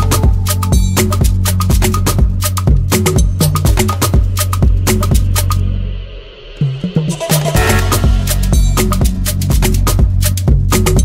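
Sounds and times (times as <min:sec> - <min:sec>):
drum and percussion beat: 0:00.0 - 0:11.0
steady bass: 0:00.0 - 0:11.0.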